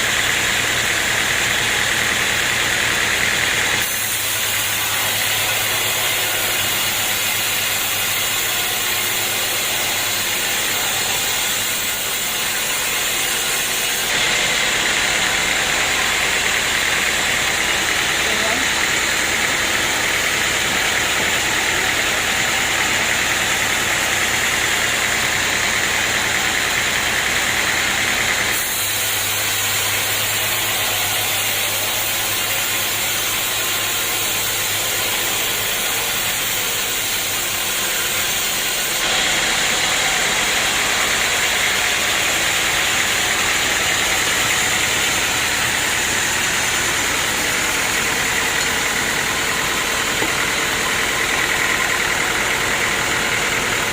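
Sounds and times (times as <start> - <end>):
sawmill engine and saw blade: 0.0 - 53.9.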